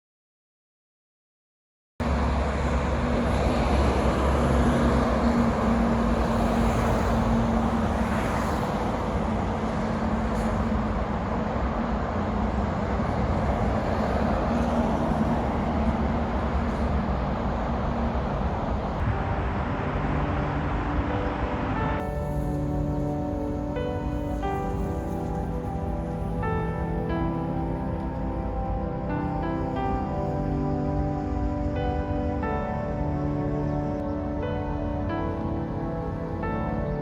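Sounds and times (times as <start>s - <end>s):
road traffic rumble: 2.0s - 37.0s.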